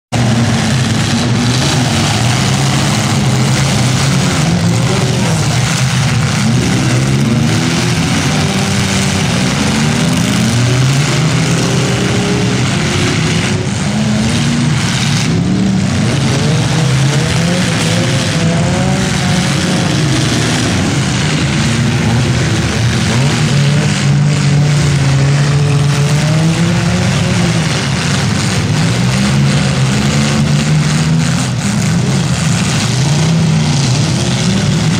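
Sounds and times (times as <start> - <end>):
car engines revving: 0.0 - 34.9.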